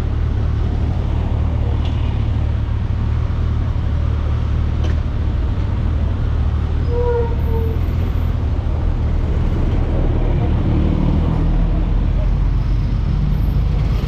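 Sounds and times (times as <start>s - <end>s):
road traffic noise: 0.0s - 14.0s
vehicle engine rumble: 0.0s - 14.0s.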